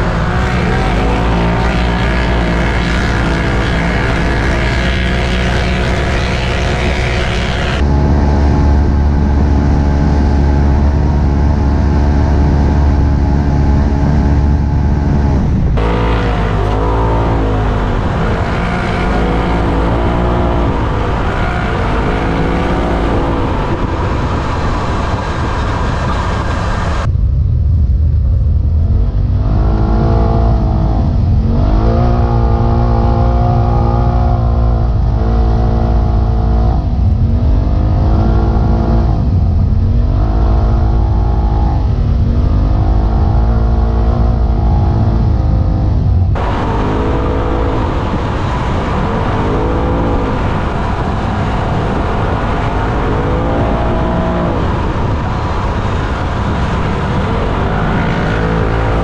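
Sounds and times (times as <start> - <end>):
off-road vehicle engine revving: 0.0 - 27.1, 28.9 - 59.0.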